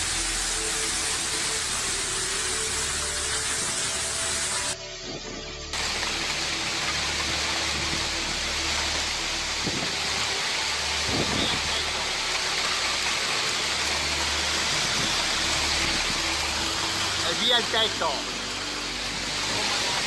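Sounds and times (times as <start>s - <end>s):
torrential rain hiss: 0.0s - 4.8s, 5.7s - 20.0s.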